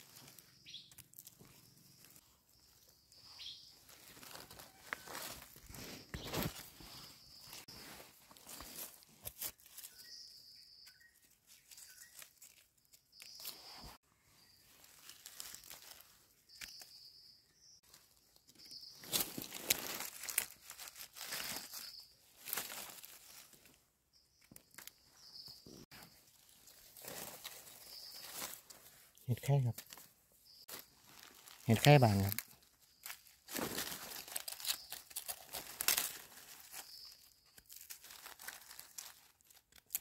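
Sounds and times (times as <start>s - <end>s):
dry leaves and twigs rustling: 0.0s - 40.0s.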